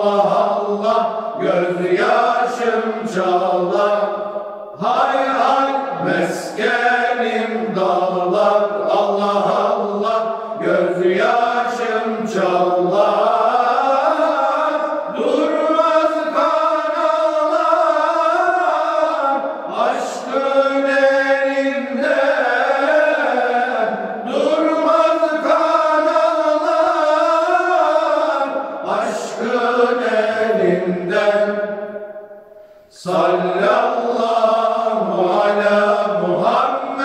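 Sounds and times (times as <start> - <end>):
male choir singing unaccompanied: 0.0 - 32.0, 32.9 - 37.0.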